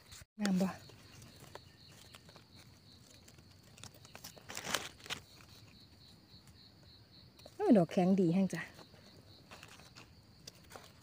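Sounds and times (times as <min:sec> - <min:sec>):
leaves rustling: 0:00.0 - 0:06.6, 0:07.4 - 0:11.0
soft clicks of handled mushrooms: 0:00.4 - 0:06.6, 0:07.3 - 0:11.0.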